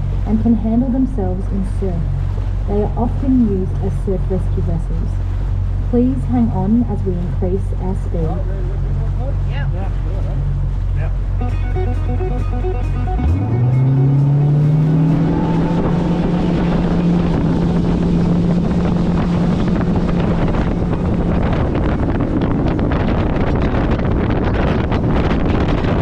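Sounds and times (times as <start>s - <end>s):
outboard motor running hard: 0.0s - 26.0s
rushing water: 0.0s - 26.0s
rushing wind: 0.0s - 26.0s.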